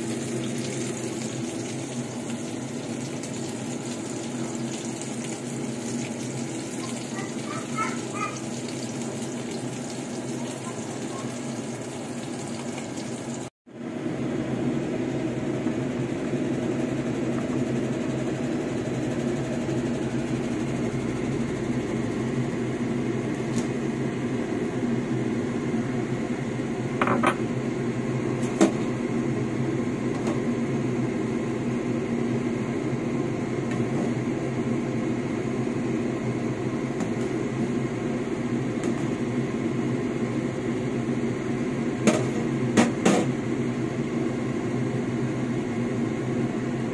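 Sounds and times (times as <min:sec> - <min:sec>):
pot boiling on gas stove: 0:00.0 - 0:46.9.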